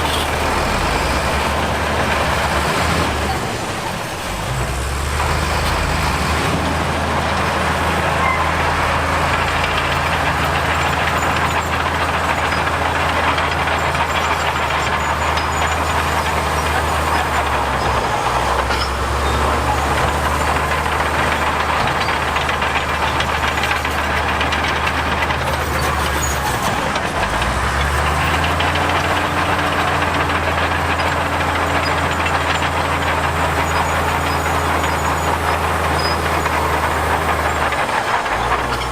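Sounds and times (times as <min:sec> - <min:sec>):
diesel machinery engine drone: 0:00.0 - 0:38.9
rumbling clatter: 0:00.0 - 0:38.9.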